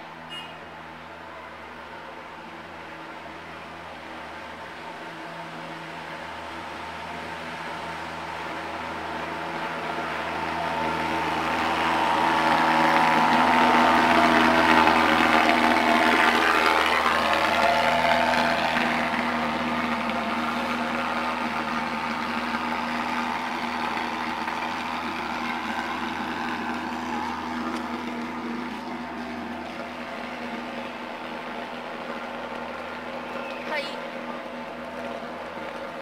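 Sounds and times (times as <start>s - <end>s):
thermal fogger droning: 0.0s - 36.0s.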